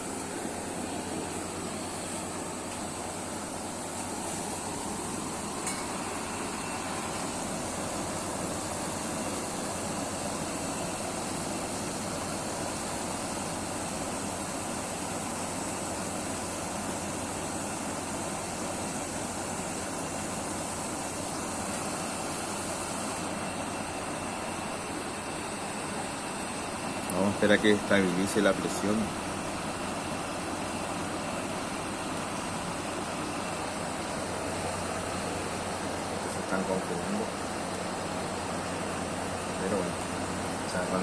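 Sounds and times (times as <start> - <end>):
air conditioner running: 0.0 - 41.0.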